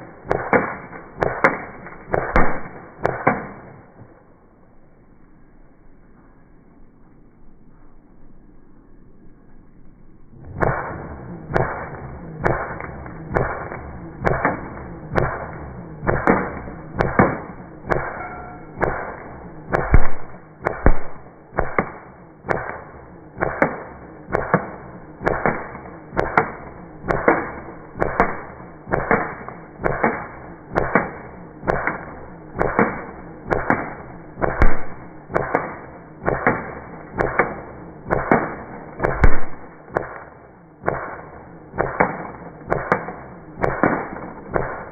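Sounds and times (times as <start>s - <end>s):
sharp whip-like cracks: 0.0s - 3.8s, 10.5s - 18.2s, 18.8s - 44.9s.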